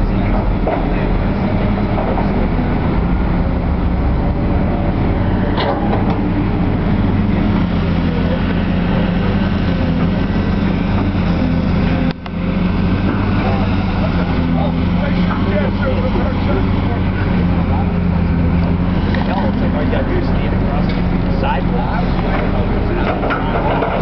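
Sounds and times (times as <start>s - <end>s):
engine humming steadily: 0.0s - 24.0s.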